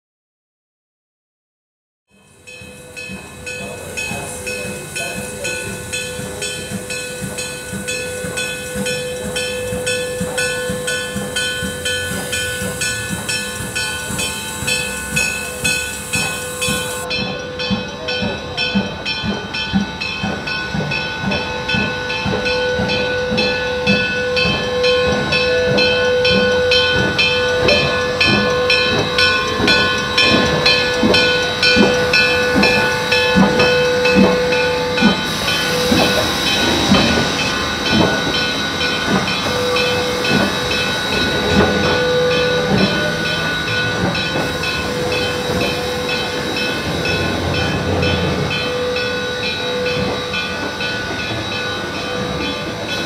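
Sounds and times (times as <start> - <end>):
steam locomotive hissing: 2.1 - 53.0
rhythmic pulsing: 2.4 - 53.0.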